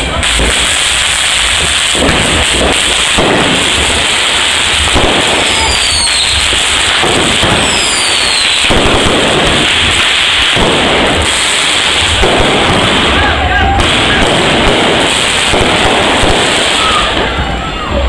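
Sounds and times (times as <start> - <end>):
fireworks bangs and crackle: 0.0 - 18.0
falling firework whistles: 0.2 - 18.0.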